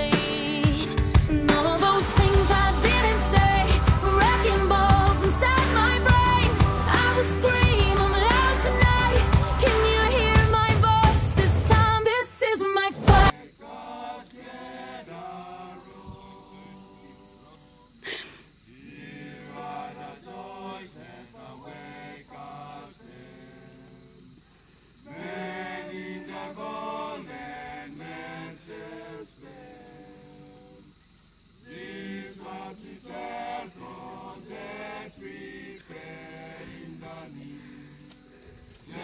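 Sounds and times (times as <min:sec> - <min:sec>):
group singing a cappella: 0:00.0 - 0:18.0, 0:18.7 - 0:24.4, 0:25.0 - 0:30.9, 0:31.6 - 0:39.0.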